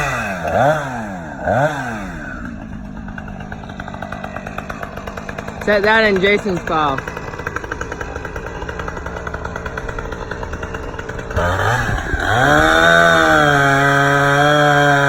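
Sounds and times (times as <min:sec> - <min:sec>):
chainsaw engine revving: 0:00.0 - 0:15.0.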